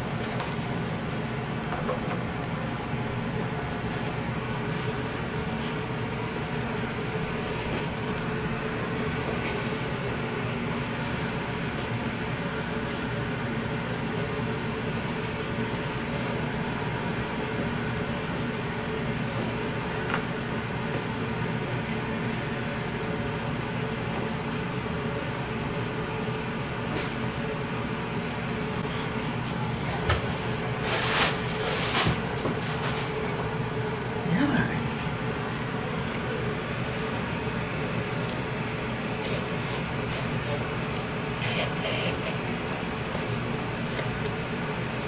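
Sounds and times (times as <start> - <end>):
machine hum and hiss: 0.0 - 45.0.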